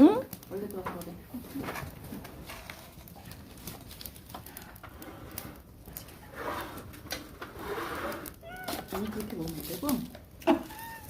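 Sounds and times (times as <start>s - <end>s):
sharp pops from fire: 0.0s - 10.7s
campfire crackling: 0.0s - 11.0s.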